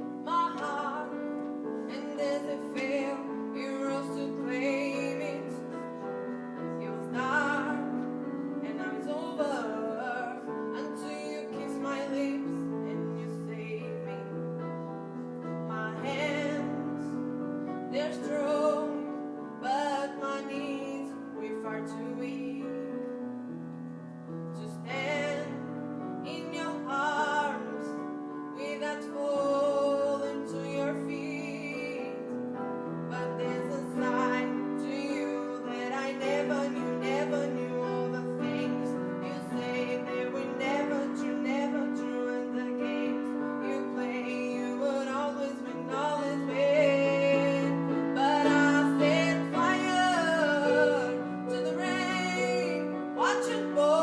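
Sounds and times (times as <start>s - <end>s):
person singing ballad: 0.0s - 23.2s, 24.5s - 54.0s
piano accompaniment: 0.0s - 54.0s.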